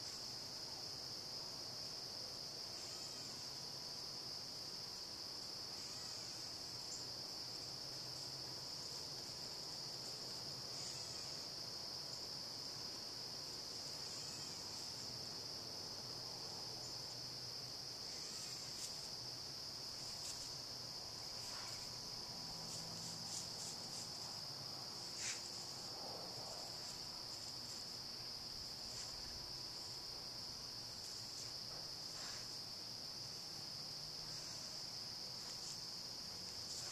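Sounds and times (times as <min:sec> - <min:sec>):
insect chorus trilling: 0:00.0 - 0:36.9.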